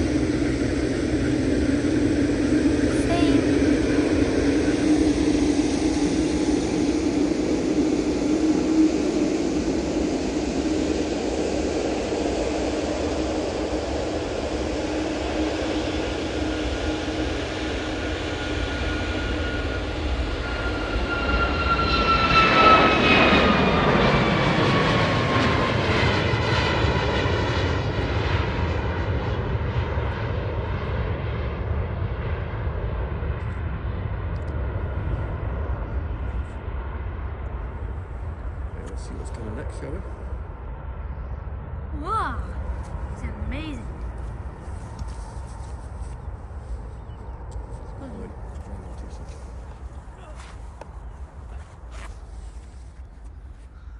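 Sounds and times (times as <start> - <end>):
aircraft passing with whine: 0.0 - 53.9
airliner engines running: 0.0 - 53.9.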